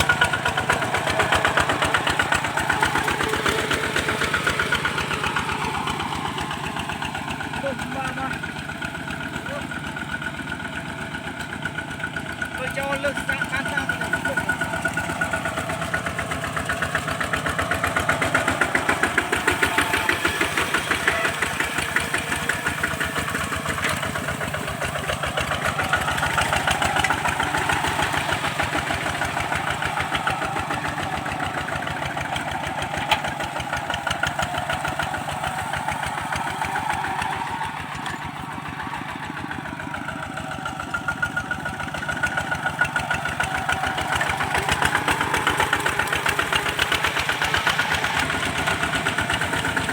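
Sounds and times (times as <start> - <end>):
diesel tractor engine running: 0.0 - 49.9.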